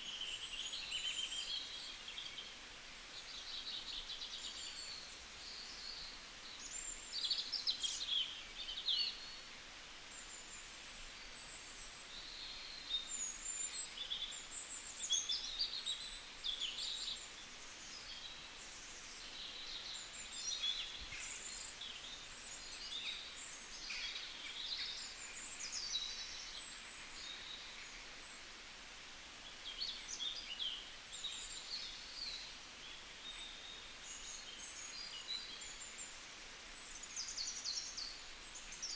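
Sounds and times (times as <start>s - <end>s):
songbirds chirping and warbling: 0.0s - 38.9s
steady background hiss: 0.0s - 38.9s.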